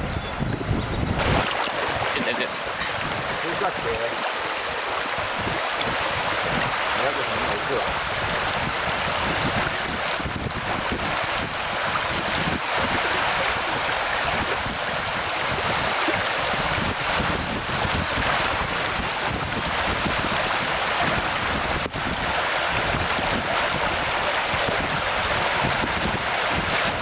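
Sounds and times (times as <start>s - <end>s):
fast-flowing river rushing: 1.2s - 27.0s.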